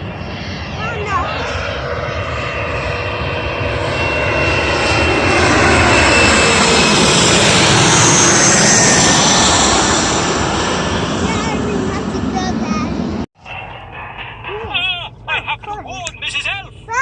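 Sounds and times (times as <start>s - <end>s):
airliner engine noise overhead: 0.0s - 17.0s.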